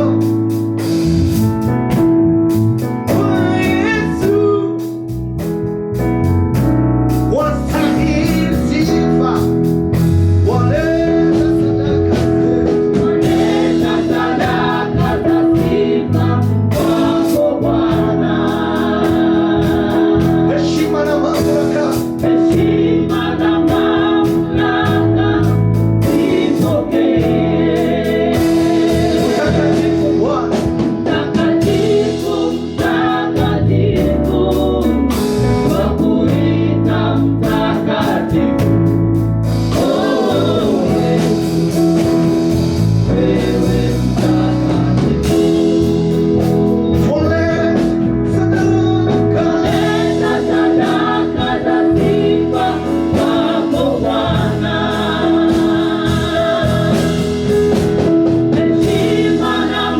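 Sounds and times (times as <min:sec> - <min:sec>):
gospel singing: 0:00.0 - 0:02.0, 0:02.7 - 0:05.1, 0:07.2 - 0:59.9
backing band: 0:00.0 - 0:59.9
bass line: 0:00.0 - 0:59.9.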